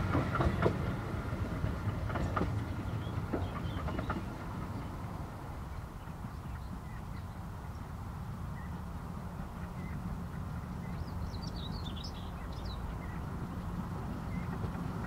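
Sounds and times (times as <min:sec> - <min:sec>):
birds chirping: 0:02.1 - 0:05.1, 0:05.7 - 0:15.0.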